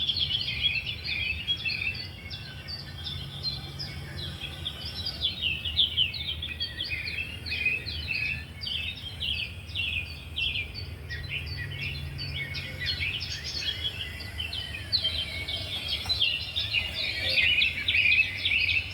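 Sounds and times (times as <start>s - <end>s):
low steady hum: 0.0s - 18.9s
small birds chirping: 0.0s - 18.9s.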